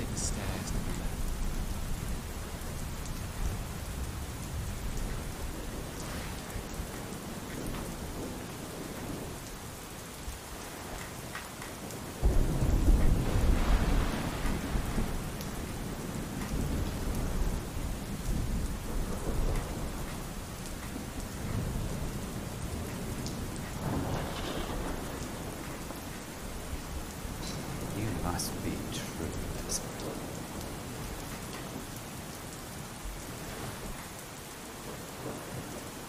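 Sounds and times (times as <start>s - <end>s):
low rumble of thunder: 0.0s - 10.5s, 12.2s - 28.4s, 29.3s - 36.0s
pouring rain: 0.0s - 36.0s.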